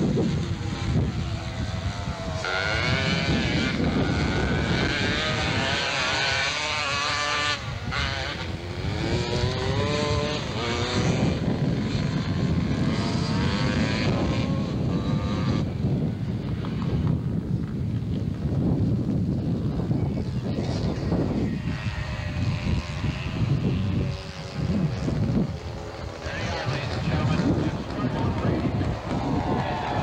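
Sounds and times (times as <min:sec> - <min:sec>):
racing motorcycle engines revving: 0:00.0 - 0:30.0.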